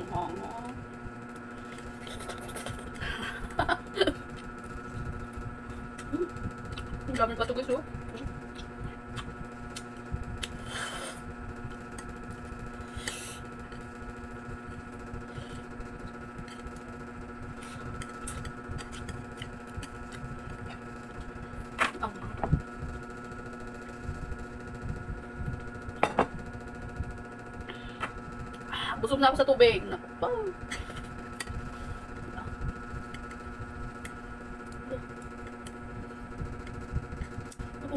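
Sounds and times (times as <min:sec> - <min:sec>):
steady hum: 0:00.0 - 0:37.9.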